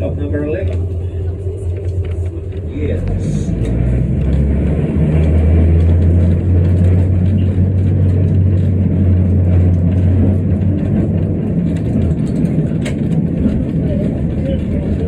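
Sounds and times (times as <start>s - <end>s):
electric tram hum: 0.0s - 15.0s
tram rumble and rattle: 0.0s - 15.0s.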